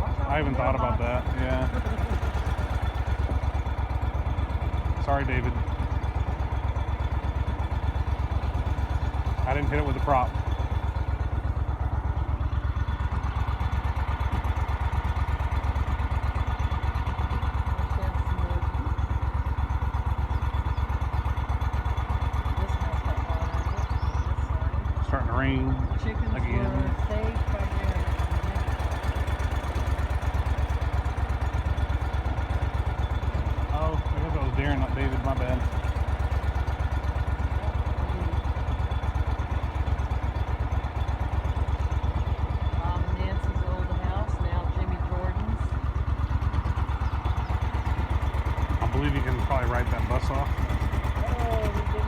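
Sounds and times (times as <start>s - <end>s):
outboard motor throbbing: 0.0s - 52.0s.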